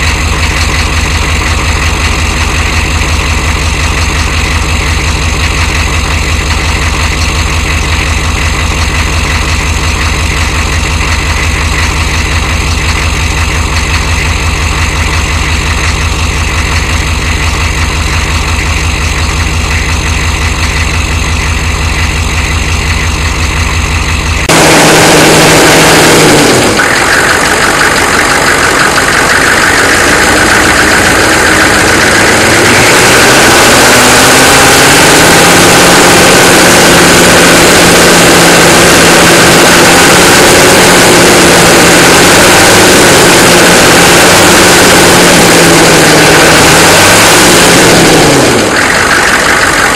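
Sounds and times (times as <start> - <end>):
diesel engine idling with clatter: 0.0 - 49.9
engine knock: 0.0 - 49.9.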